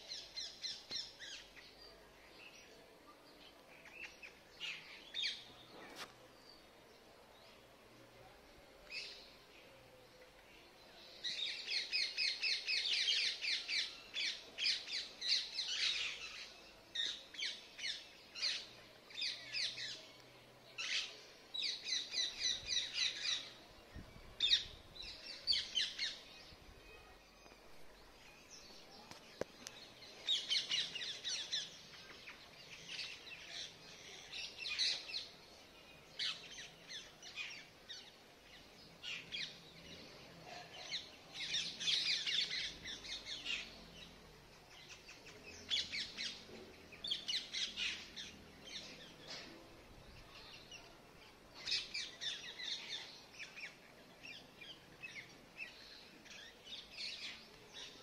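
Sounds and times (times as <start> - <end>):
birds chirping: 8.8 - 58.0.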